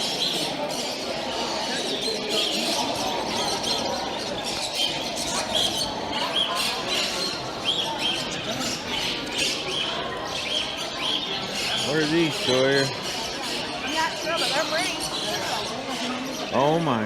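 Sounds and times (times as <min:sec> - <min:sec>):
birds chirping and squawking: 0:00.0 - 0:17.0
crowd chatter: 0:00.0 - 0:17.0.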